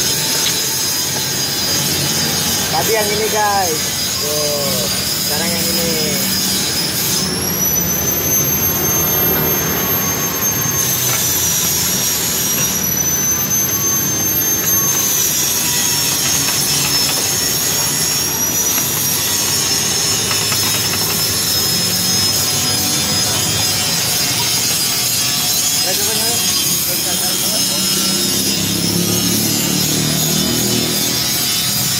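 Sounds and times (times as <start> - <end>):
high-pitched machine whine: 0.0 - 31.9
machine running roar: 0.0 - 31.9.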